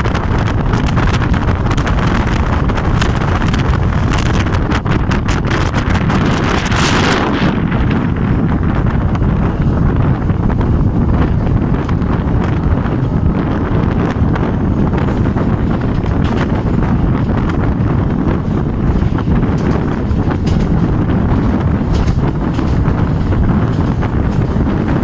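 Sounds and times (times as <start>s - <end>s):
train rumbling on track: 0.0s - 25.0s
wind buffeting microphone: 0.0s - 25.0s.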